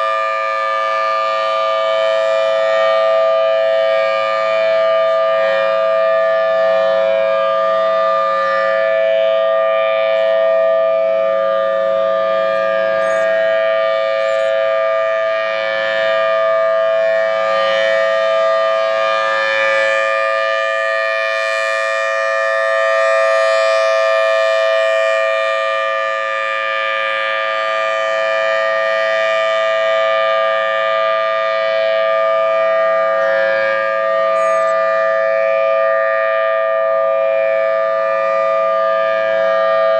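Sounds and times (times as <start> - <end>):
dual-tone siren alert: 0.0 - 39.9.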